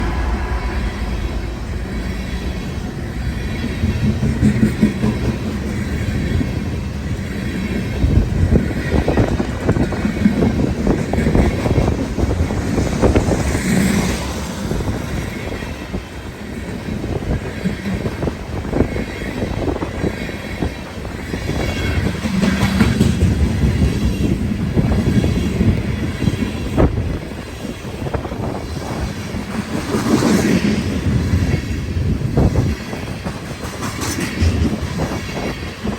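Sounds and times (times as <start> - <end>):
freight train wheels rumbling on rails: 0.0 - 35.9
train clicking and clatter: 0.0 - 35.9.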